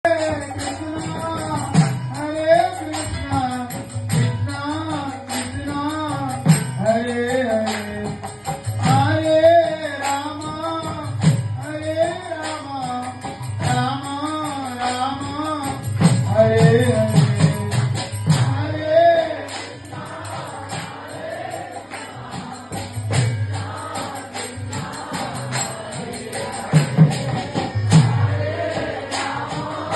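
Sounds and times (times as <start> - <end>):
jingling hand percussion: 0.0 - 29.9.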